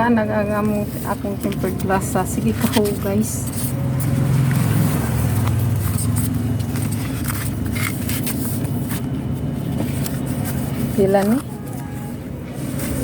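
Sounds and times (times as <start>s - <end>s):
vehicle engine running: 0.0s - 13.0s
handling clicks and rustles: 0.5s - 13.0s.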